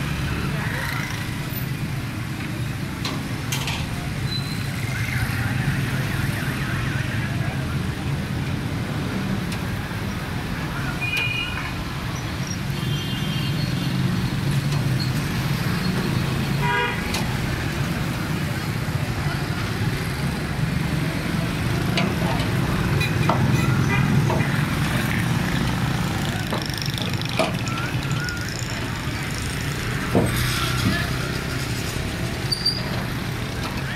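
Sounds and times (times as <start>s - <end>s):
traffic rumble: 0.0s - 33.9s.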